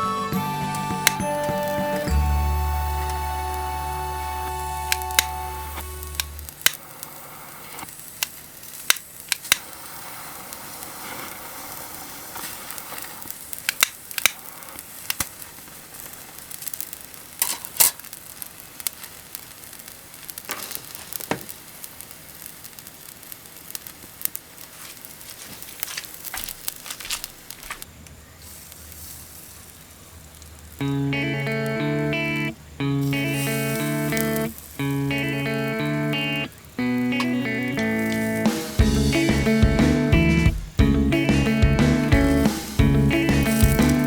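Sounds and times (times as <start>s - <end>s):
meat sizzling over charcoal: 0.0s - 44.0s
sharp pops and crackles: 0.8s - 44.0s.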